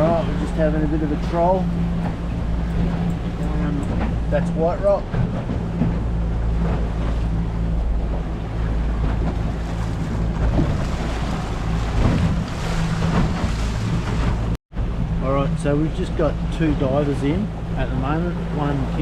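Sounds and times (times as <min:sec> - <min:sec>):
boat engine running: 0:00.0 - 0:19.0
water around hull: 0:00.0 - 0:19.0.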